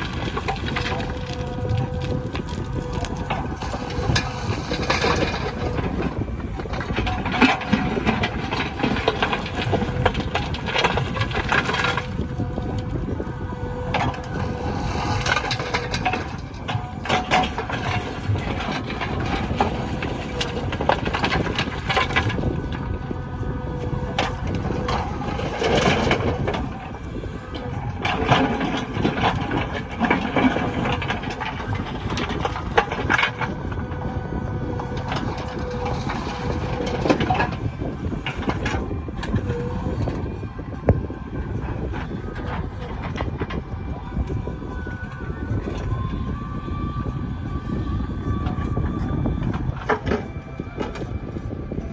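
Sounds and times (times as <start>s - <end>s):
knocks and clatter of digging soil: 0.0s - 44.4s
diesel engine running: 0.0s - 51.9s
heavy machinery rumbling: 0.0s - 51.9s.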